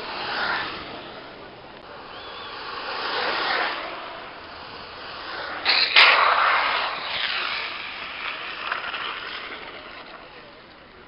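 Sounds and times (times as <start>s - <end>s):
longboard wheels rolling on asphalt: 0.0s - 11.0s.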